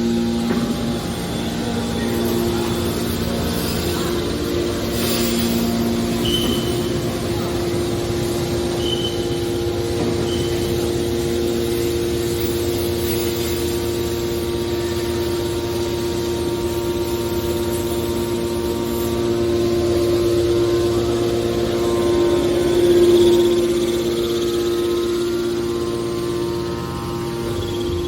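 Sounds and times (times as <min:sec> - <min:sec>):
hydraulic pump whining hum: 0:00.0 - 0:28.0.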